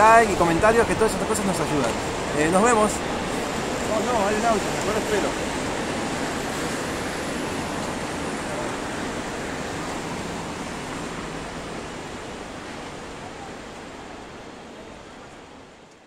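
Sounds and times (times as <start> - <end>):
distant crowd voices: 0.0 - 15.7
traffic noise: 0.0 - 16.0.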